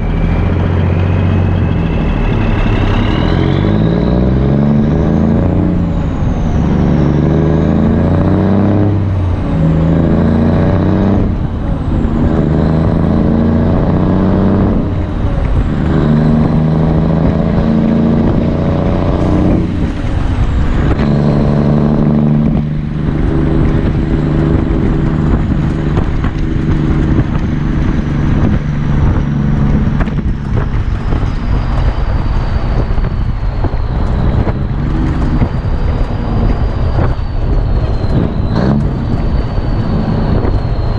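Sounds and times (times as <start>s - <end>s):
diesel truck engine shifting gears: 0.0s - 40.9s.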